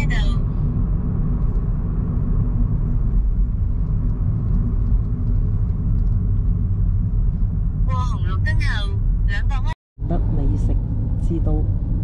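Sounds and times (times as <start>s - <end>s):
car engine and road noise inside: 0.0s - 12.0s.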